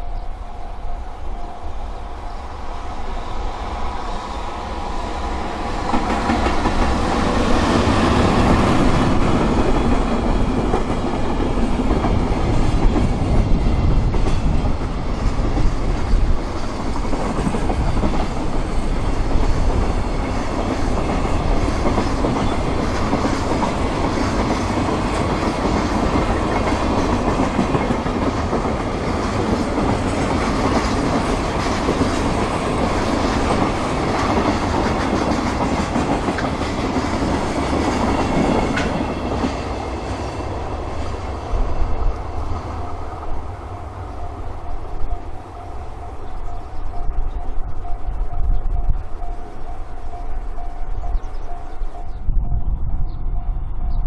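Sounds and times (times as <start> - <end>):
freight train wheels clattering on rails: 2.9 - 52.6.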